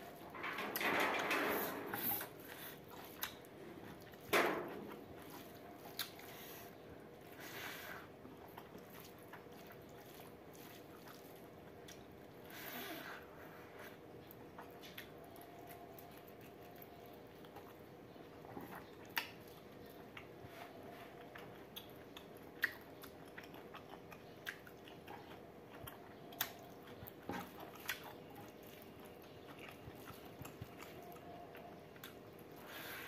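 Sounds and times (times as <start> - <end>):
faint steady hum: 0.0 - 33.0
person chewing food: 2.0 - 33.0.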